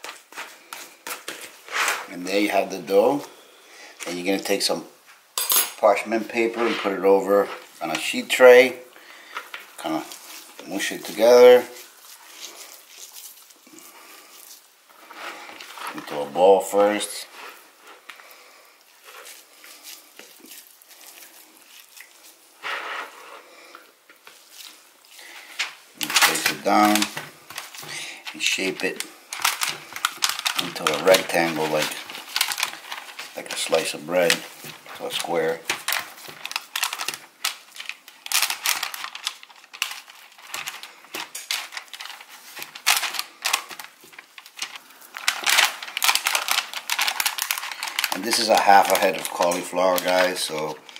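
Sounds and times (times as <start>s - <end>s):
parchment paper crinkling: 5.8s - 50.9s
hands squishing dough: 6.2s - 50.9s.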